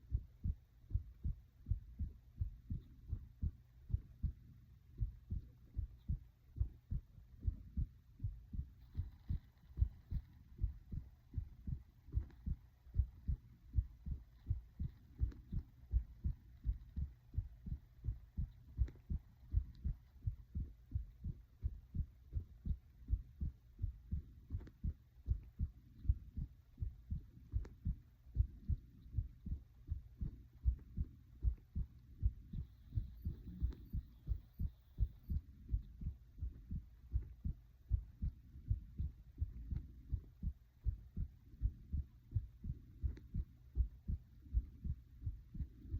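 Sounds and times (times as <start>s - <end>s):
heartbeat thumps: 0.0s - 45.9s.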